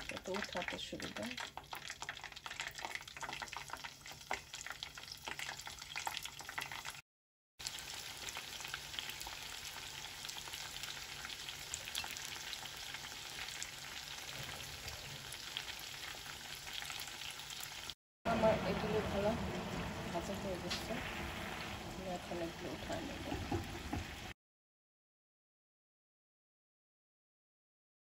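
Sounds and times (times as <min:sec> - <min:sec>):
chicken deep-frying in oil: 0:00.0 - 0:07.0, 0:07.6 - 0:24.4.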